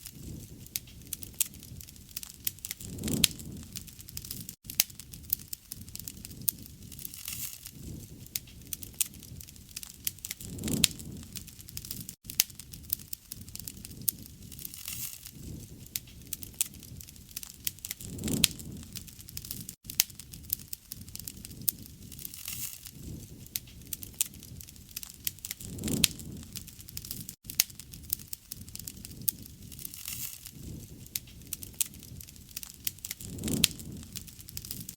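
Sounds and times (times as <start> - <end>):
low flame rumble: 0.0 - 34.9
wood fire crackling and popping: 0.0 - 34.9.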